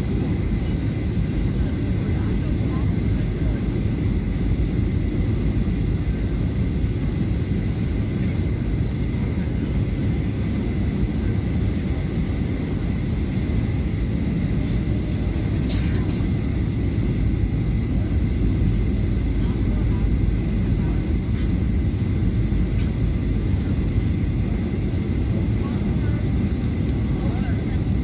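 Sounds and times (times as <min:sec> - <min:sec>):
jet engine rumble in cabin: 0:00.0 - 0:28.0.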